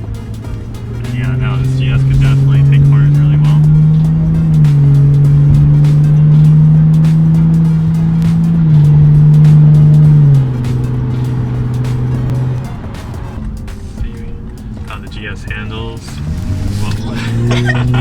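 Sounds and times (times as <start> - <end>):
car engine droning inside cabin: 0.0 - 18.0.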